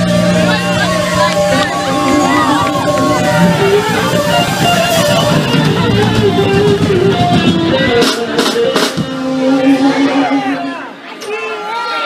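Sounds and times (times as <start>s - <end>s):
live band with guitar: 0.0s - 11.3s
crowd noise: 0.0s - 12.0s.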